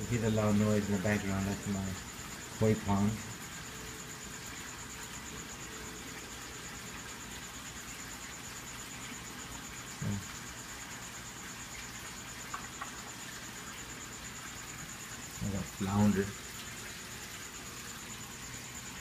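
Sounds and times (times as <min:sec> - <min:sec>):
pond water rushing: 0:00.0 - 0:19.0.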